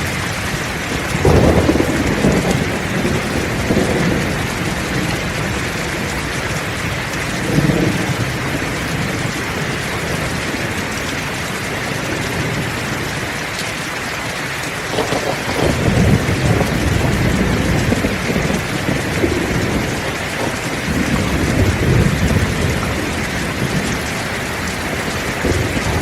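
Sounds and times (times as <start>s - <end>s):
thunder rumbling: 0.0s - 13.4s, 14.0s - 26.0s
heavy rain: 0.0s - 26.0s.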